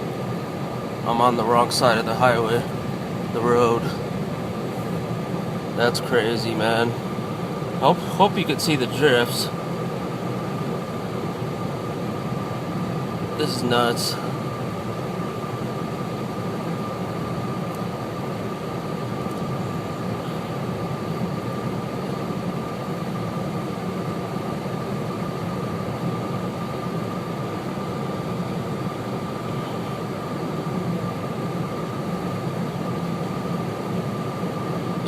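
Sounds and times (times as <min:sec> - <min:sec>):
car engine and tyre rumble: 0:00.0 - 0:35.0
constant thin whine: 0:00.0 - 0:35.0.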